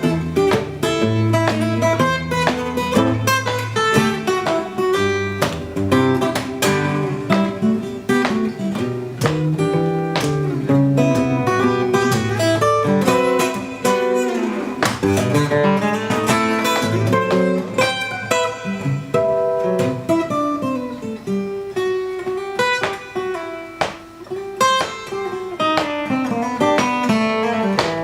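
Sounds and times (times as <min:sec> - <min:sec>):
acoustic guitar music: 0:00.0 - 0:28.0.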